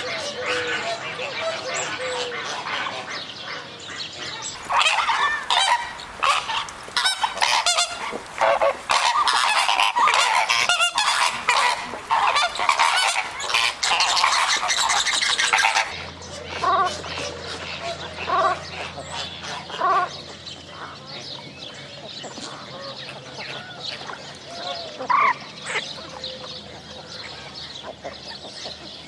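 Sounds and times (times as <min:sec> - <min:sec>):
flamingos honking: 0:00.0 - 0:29.0.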